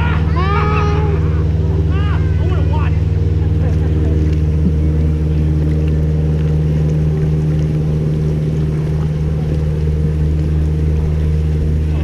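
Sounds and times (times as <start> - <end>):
paddles splashing in water: 0.0 - 12.0
raft engine droning: 0.0 - 12.0.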